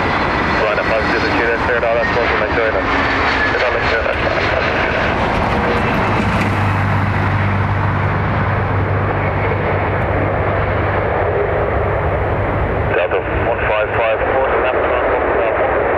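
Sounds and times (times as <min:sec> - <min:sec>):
jet engines rumbling: 0:00.0 - 0:15.9.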